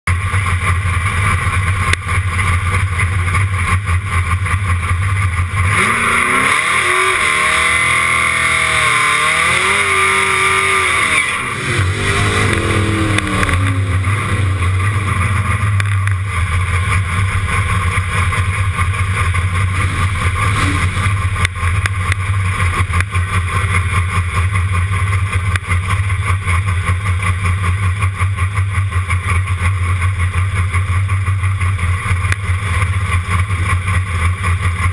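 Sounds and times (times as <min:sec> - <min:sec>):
car engine idling: 0:00.1 - 0:34.9
car engine revving: 0:00.1 - 0:34.9.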